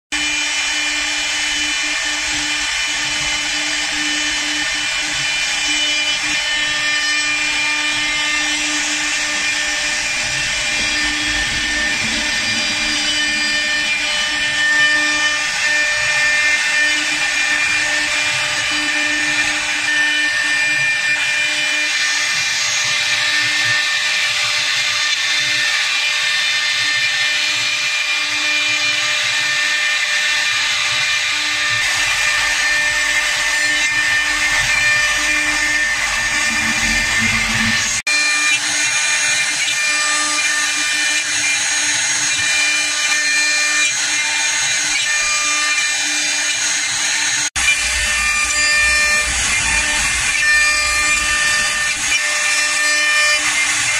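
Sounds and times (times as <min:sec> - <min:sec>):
cutter cutting wood: 0:00.1 - 0:53.9
lathe spindle whine: 0:00.2 - 0:53.9.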